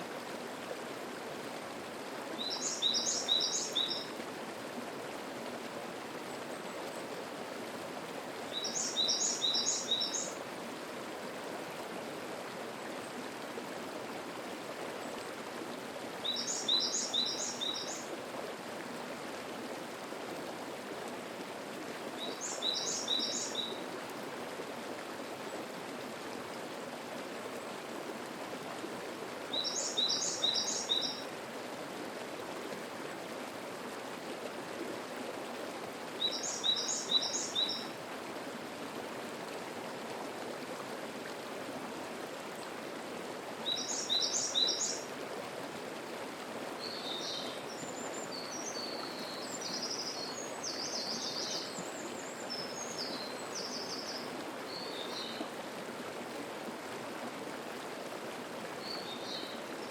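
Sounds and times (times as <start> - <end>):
stream babbling: 0.0 - 59.9.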